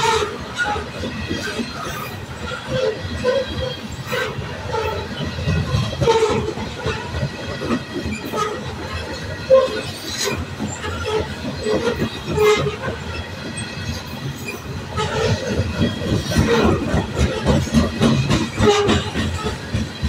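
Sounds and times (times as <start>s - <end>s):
train cars clanking: 0.0s - 20.0s
train wheels rumbling on rail: 0.0s - 20.0s.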